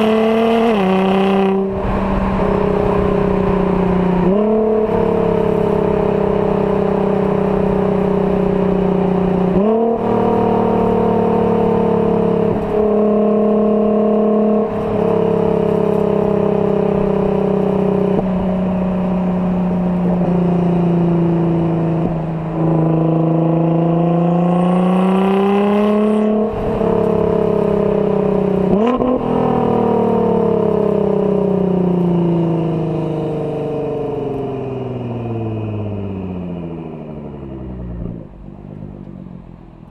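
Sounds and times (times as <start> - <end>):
car engine revving through gear changes: 0.0 - 39.9.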